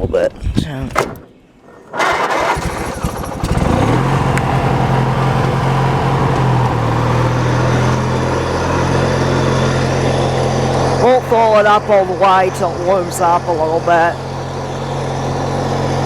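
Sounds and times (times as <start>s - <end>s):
lawn tractor engine starting: 0.9s - 16.0s.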